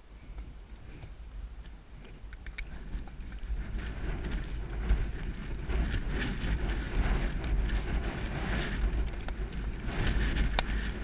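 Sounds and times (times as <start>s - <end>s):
wind on microphone: 0.0s - 11.0s
hoofbeats on grass and dirt: 0.4s - 11.0s.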